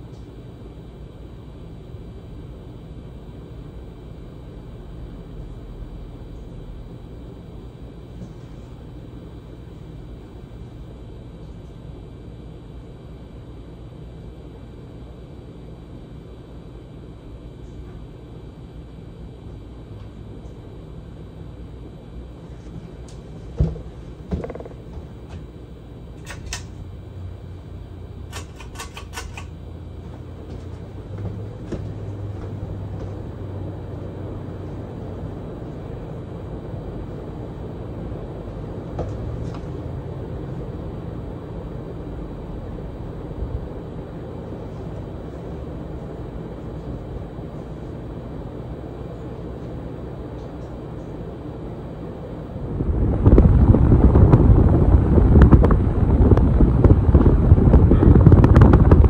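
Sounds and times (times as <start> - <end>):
ceiling fan motor hum: 0.0 - 59.0.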